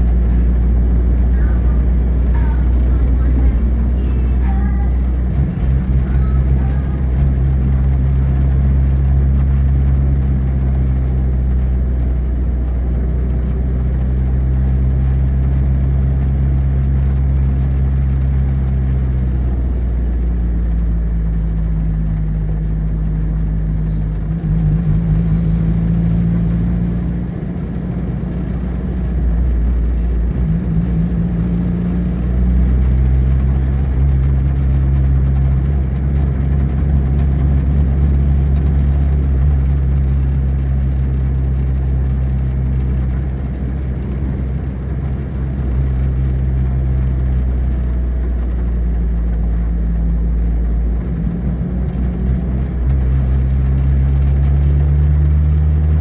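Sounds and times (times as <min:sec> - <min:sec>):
car engine humming: 0:00.0 - 0:56.0
road noise: 0:00.0 - 0:56.0.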